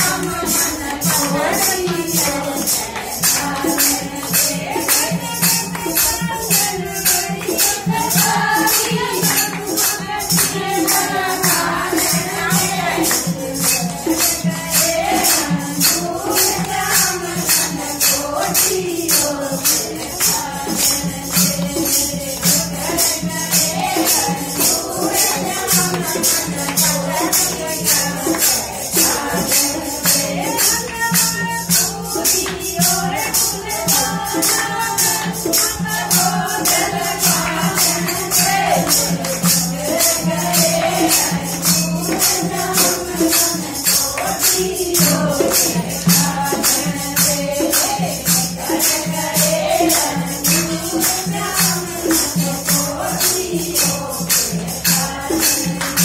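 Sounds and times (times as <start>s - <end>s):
hand claps: 0.0s - 56.0s
jingling percussion: 0.0s - 56.0s
women singing in chorus: 0.0s - 56.0s.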